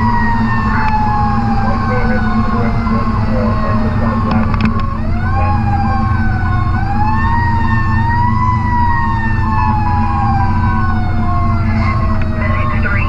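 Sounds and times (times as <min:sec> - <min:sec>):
diesel engine droning: 0:00.0 - 0:13.0
fire truck siren wailing: 0:00.0 - 0:13.0.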